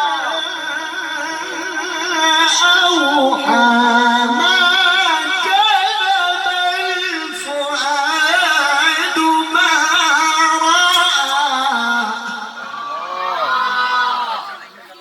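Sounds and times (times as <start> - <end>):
man reciting melodically: 0.0 - 12.8.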